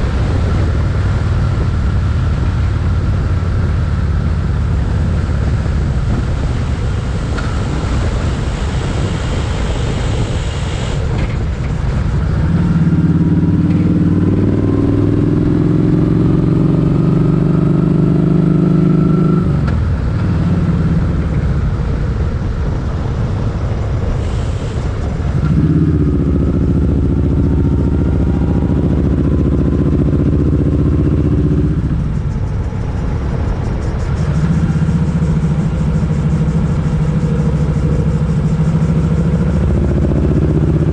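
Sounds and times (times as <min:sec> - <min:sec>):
motorcycle engine running: 0:00.0 - 0:10.4, 0:11.0 - 0:40.9
wind noise: 0:00.0 - 0:40.9.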